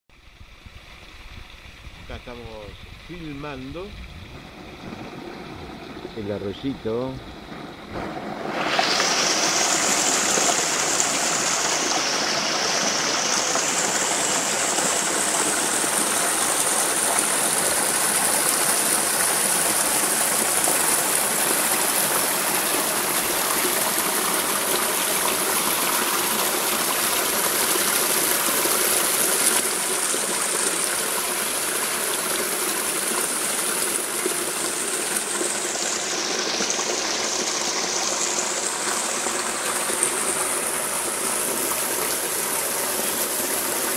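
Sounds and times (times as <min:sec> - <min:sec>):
creek running over stones: 0:00.1 - 0:43.9.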